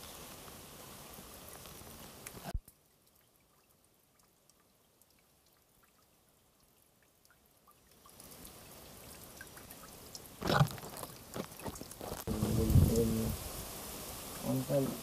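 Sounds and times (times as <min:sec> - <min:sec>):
fuel dripping and trickling: 0:00.0 - 0:14.6.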